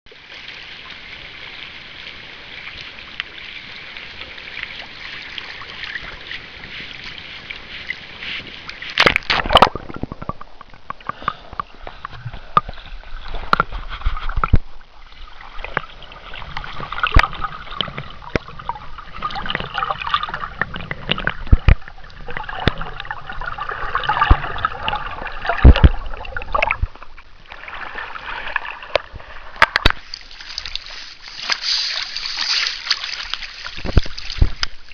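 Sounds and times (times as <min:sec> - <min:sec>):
water gurgling: 0:00.1 - 0:34.9
water sloshing and splashing: 0:00.1 - 0:34.9.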